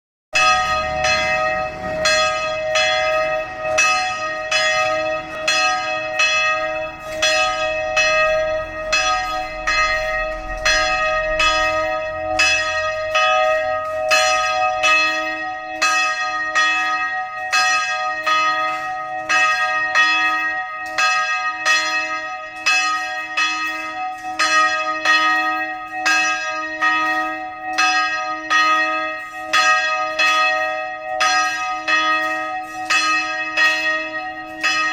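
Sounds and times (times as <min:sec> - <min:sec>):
church bells ringing: 0:00.3 - 0:34.9.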